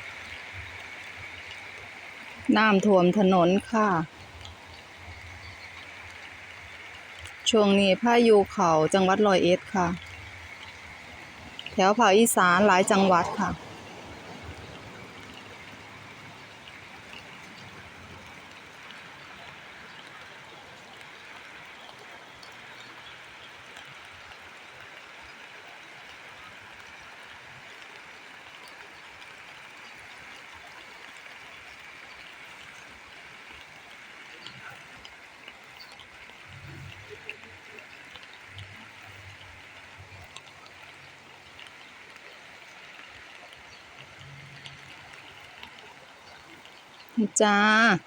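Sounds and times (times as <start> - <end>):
steady rain: 0.0 - 48.0
water running off: 0.0 - 48.0.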